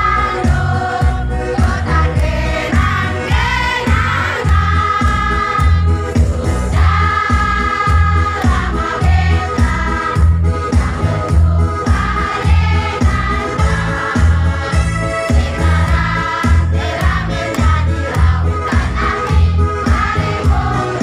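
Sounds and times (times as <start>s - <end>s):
many voices singing: 0.0s - 21.0s
music with pulsing bass beat: 0.0s - 21.0s.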